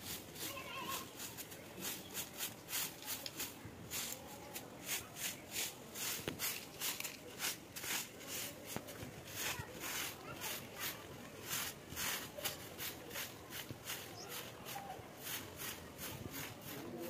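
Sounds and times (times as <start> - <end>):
broom swishing on earth floor: 0.0 - 17.0.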